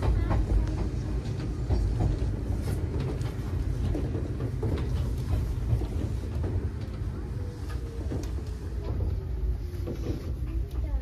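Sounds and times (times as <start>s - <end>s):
faint clicks and rattles: 0.0s - 11.0s
train wheels rumbling: 0.0s - 11.0s.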